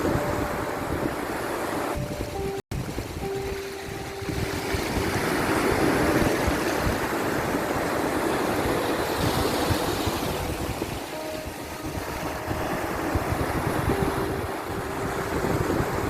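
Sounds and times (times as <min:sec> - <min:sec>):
ocean waves surging: 0:00.0 - 0:16.0.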